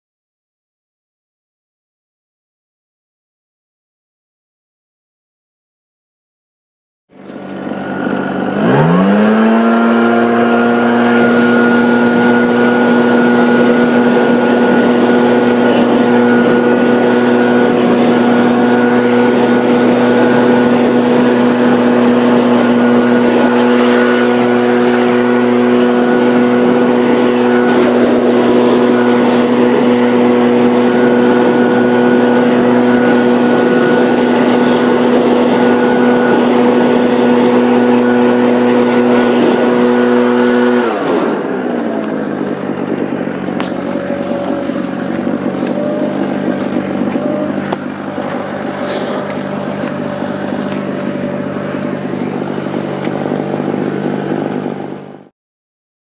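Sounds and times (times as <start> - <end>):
small gasoline engine revving: 7.1 - 55.3.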